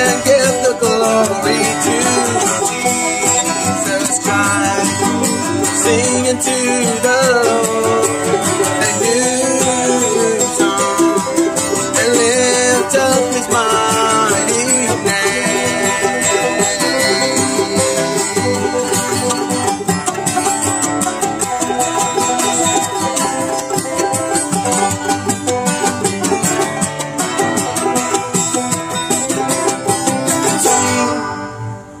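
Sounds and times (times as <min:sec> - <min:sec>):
acoustic plucked string music: 0:00.0 - 0:32.0.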